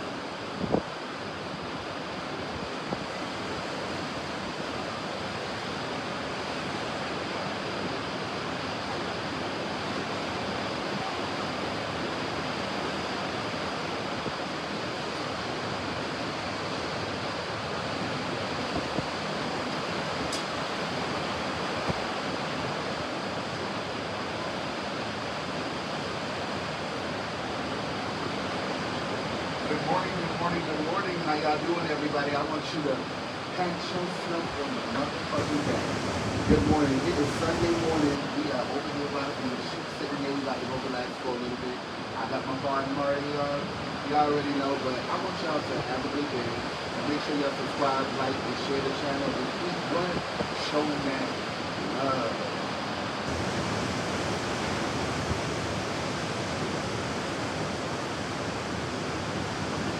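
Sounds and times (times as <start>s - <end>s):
ocean surf on beach: 0.0s - 59.9s.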